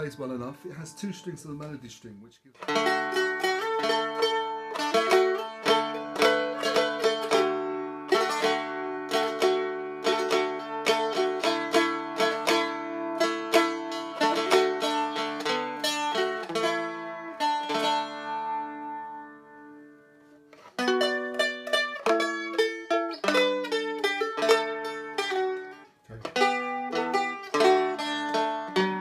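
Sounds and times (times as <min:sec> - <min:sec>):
stick dulcimer melody: 0:02.6 - 0:19.8, 0:20.5 - 0:29.0.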